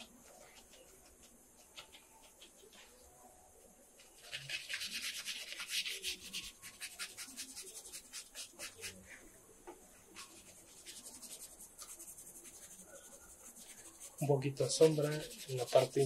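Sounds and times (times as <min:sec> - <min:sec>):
brush scratching on paper: 0:00.0 - 0:03.0, 0:04.0 - 0:09.3, 0:10.0 - 0:16.0.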